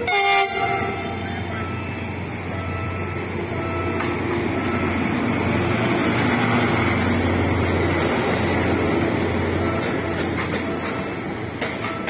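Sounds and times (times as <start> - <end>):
locomotive engine running: 0.0 - 12.0.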